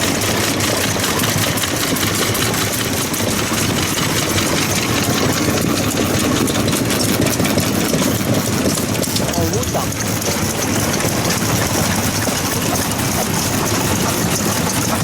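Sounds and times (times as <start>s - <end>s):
farm engines clattering: 0.0s - 15.0s.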